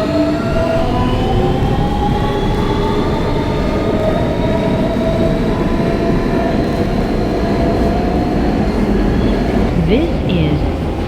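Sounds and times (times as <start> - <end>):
electric propulsion whine: 0.0 - 10.5
subway wheels rumbling on rail: 0.0 - 11.0.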